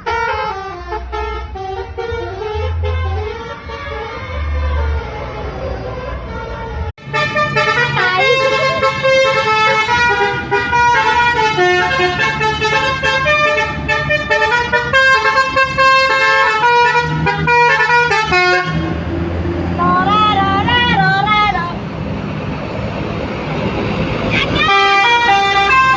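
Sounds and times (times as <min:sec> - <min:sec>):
multi-tone bus horn tune: 0:00.0 - 0:19.2, 0:19.8 - 0:21.8, 0:24.4 - 0:25.9.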